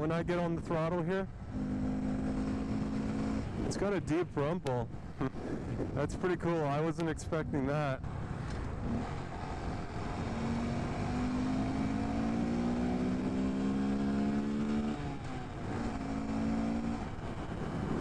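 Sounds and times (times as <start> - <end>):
motorcycle engine rumbling: 0.0 - 18.0
wind noise: 1.3 - 18.0.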